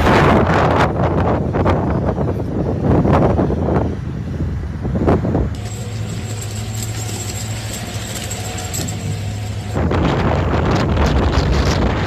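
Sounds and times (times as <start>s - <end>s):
wind buffeting microphone: 0.0s - 7.2s, 8.5s - 12.0s.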